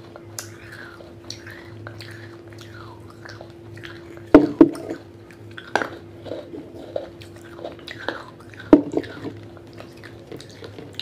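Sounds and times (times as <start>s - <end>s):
teeth crunching clay pot: 0.3s - 11.0s.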